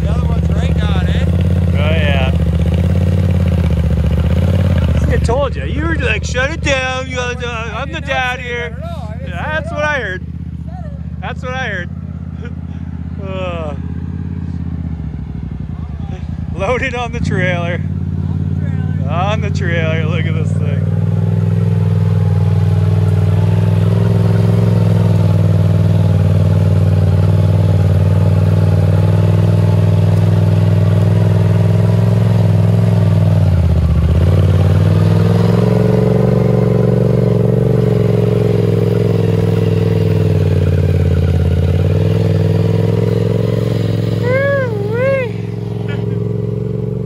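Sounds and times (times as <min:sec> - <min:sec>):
engine at high revs: 0:00.0 - 0:47.0
tires spinning on dirt: 0:00.0 - 0:47.0.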